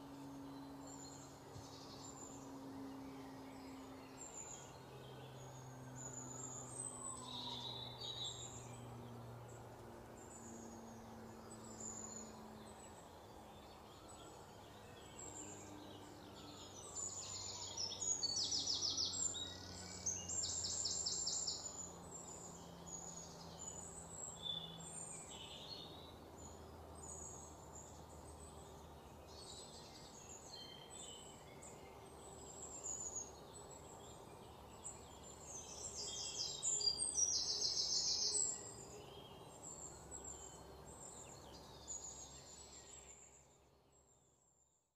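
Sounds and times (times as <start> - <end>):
low steady hum: 0.0 - 43.4
songbirds chirping and trilling: 0.0 - 44.7.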